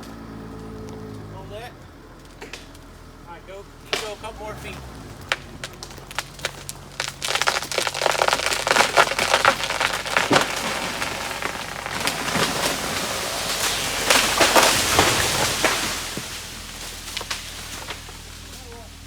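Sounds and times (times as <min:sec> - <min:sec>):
branches crashing through leaves: 0:00.0 - 0:19.0
tree falling and wood cracking: 0:00.0 - 0:19.0.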